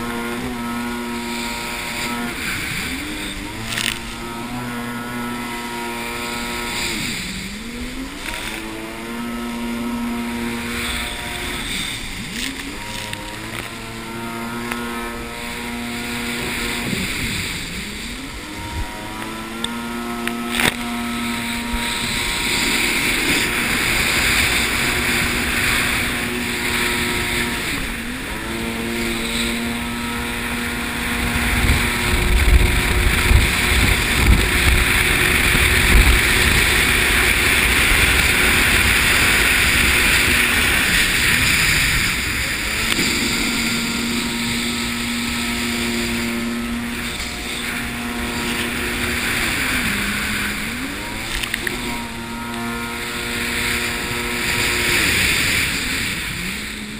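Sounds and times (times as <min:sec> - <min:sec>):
jet ski engine running: 0:00.0 - 0:56.9
wind on microphone: 0:00.0 - 0:56.9.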